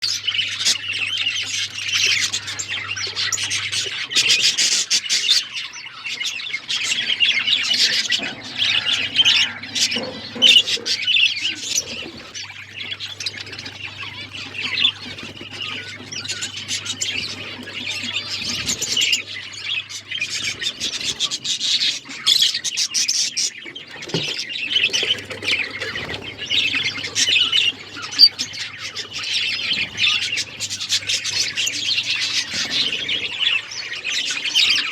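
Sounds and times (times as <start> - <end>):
budgerigars chirping and chattering: 0.0 - 34.9.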